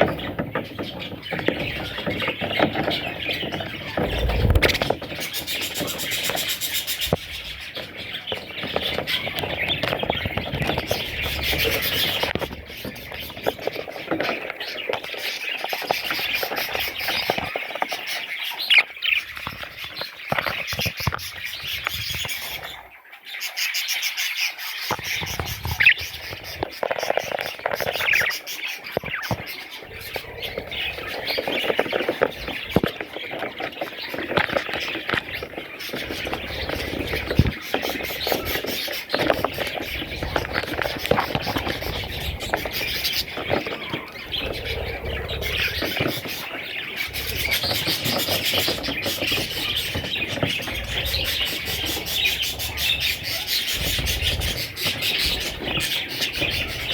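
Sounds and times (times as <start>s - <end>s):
budgie chicks chirping: 0.0s - 56.9s.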